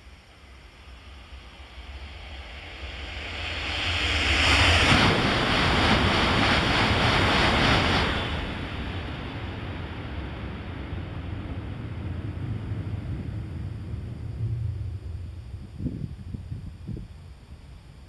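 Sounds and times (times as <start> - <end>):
train rushing past: 0.4 - 17.1.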